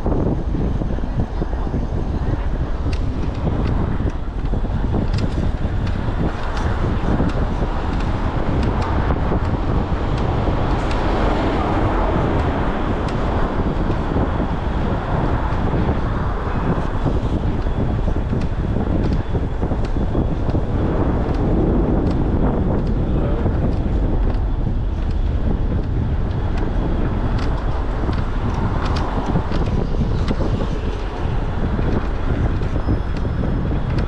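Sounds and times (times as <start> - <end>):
road noise: 0.0 - 34.0
wind buffeting microphone: 0.0 - 34.0.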